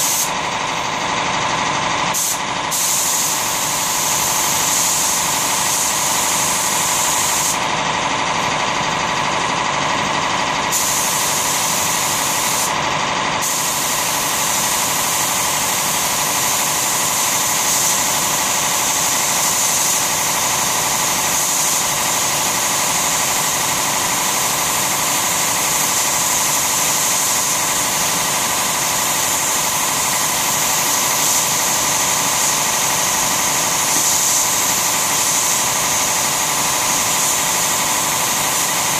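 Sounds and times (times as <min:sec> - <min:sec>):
spray gun hissing: 0:00.0 - 0:00.4, 0:02.1 - 0:07.7, 0:10.7 - 0:12.8, 0:13.4 - 0:38.9
air compressor running: 0:00.0 - 0:38.9.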